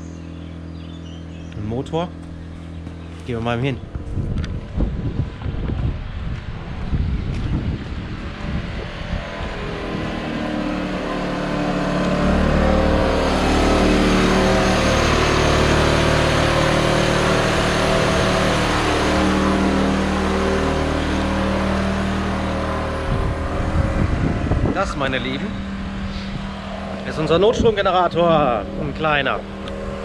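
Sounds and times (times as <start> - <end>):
generator engine running: 0.0 - 30.0.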